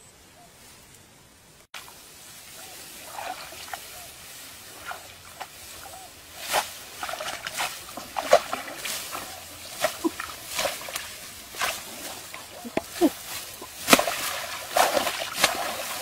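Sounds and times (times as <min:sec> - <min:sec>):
rice stalks rustling: 0:00.5 - 0:16.0
shallow water sloshing: 0:01.8 - 0:16.0.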